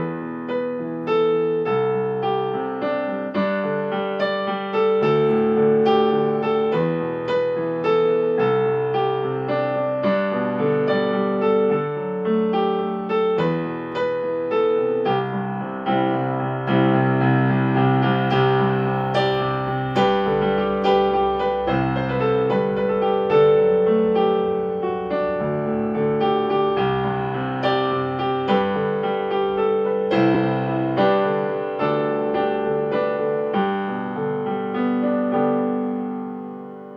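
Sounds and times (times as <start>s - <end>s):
solo piano playing: 0.0s - 36.9s.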